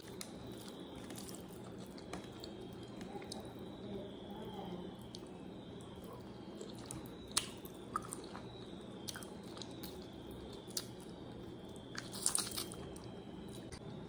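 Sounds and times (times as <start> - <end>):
person chewing food: 0.0 - 3.6, 5.0 - 13.8.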